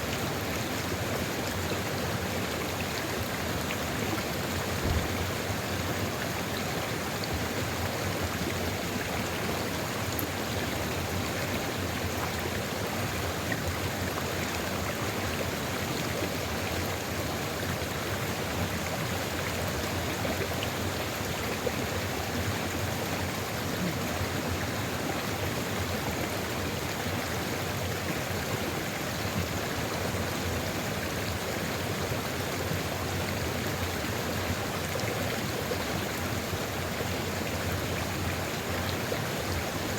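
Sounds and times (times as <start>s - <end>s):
river rushing and babbling: 0.0s - 39.9s.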